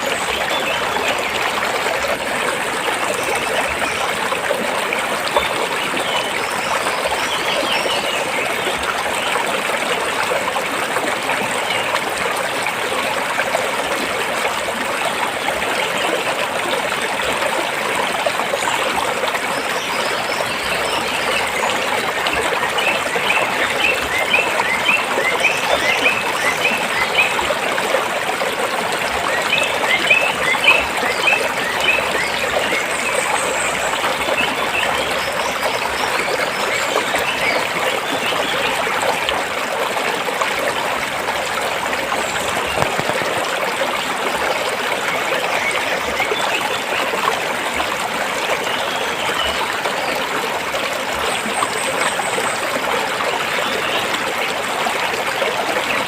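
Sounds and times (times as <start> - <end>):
stream gurgling over stones: 0.0 - 56.0.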